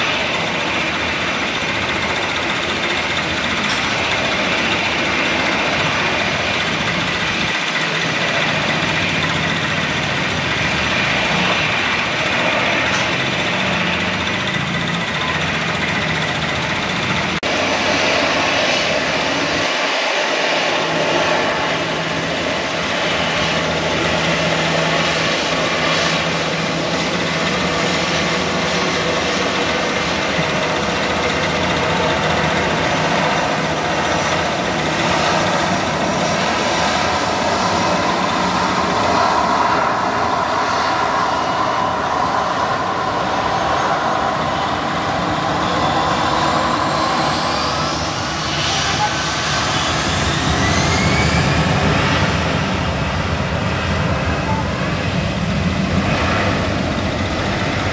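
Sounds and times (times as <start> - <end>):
jet engines running: 0.0 - 57.9.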